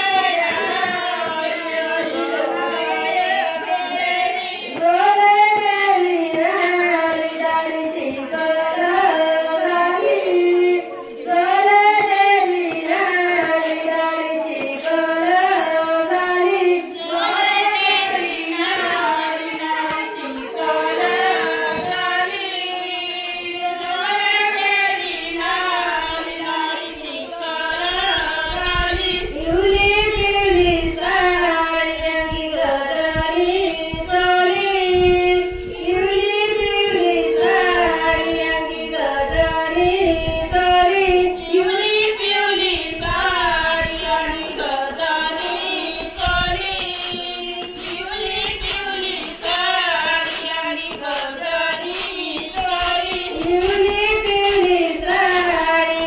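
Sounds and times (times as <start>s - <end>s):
women singing a work song: 0.0s - 56.0s.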